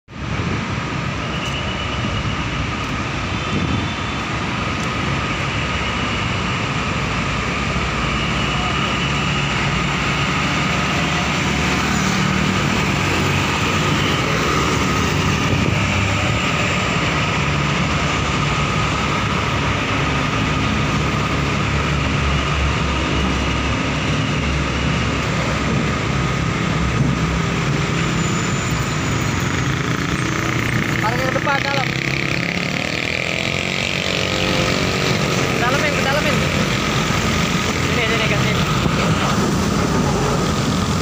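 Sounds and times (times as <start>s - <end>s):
road traffic noise: 0.1s - 41.0s
truck diesel engine rumble: 2.3s - 41.0s.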